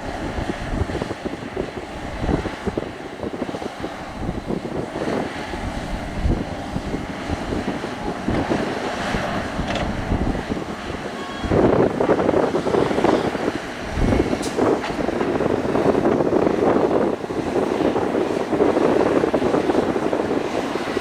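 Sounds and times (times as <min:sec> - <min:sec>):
excavator diesel engine under load: 0:00.0 - 0:21.0
wind on microphone: 0:00.0 - 0:21.0.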